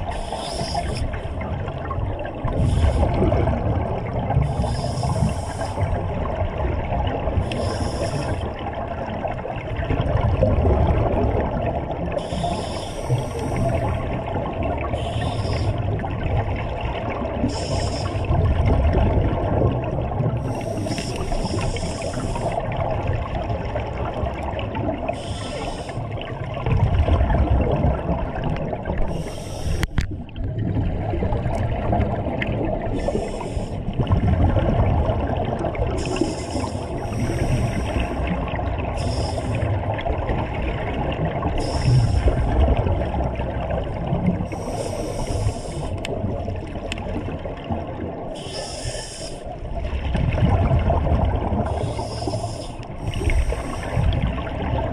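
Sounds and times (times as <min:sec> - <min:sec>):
underwater regulator bubbling: 0:00.0 - 0:54.9.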